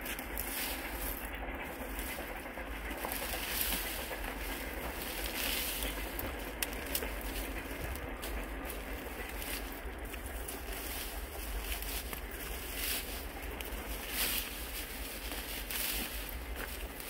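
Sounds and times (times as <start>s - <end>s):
dry grass rustling and crackling: 0.0s - 17.0s.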